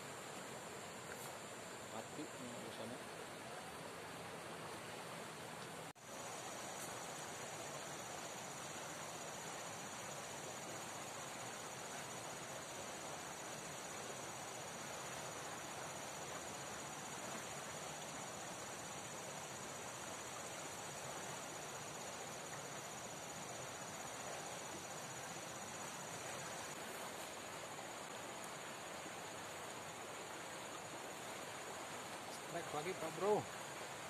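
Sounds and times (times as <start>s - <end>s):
river water rushing: 0.0s - 34.0s
high-pitched insect trill: 6.0s - 34.0s.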